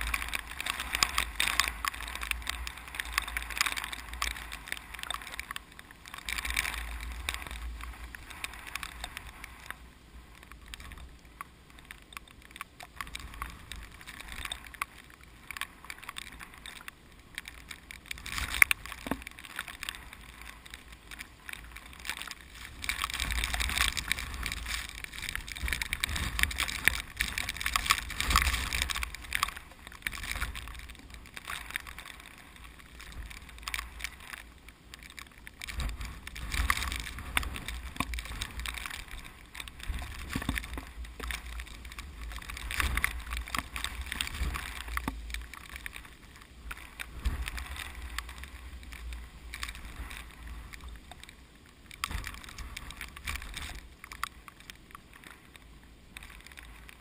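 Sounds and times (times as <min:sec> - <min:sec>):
low wind rumble: 0:00.0 - 0:57.0.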